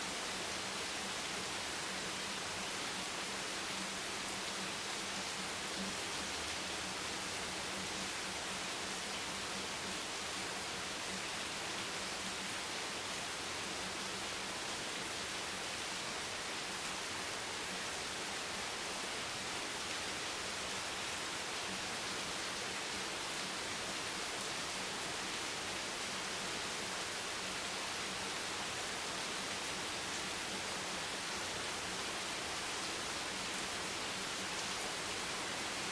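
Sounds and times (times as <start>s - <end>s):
dense rain hiss: 0.0s - 35.9s.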